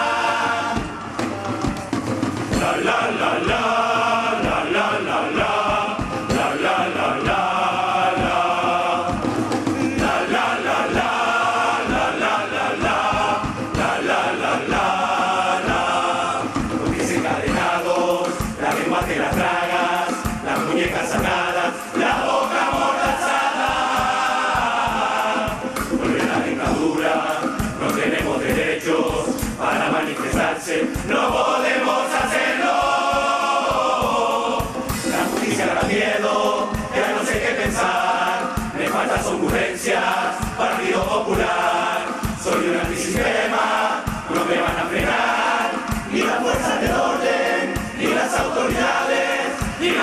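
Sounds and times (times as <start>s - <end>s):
drums and cymbals: 0.0s - 50.0s
group chanting in unison: 0.0s - 50.0s.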